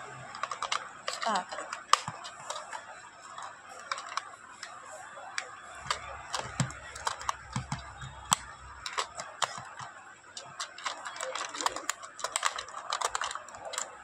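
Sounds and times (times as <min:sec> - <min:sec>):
plastic clicks and taps: 0:00.1 - 0:04.8, 0:05.4 - 0:14.0.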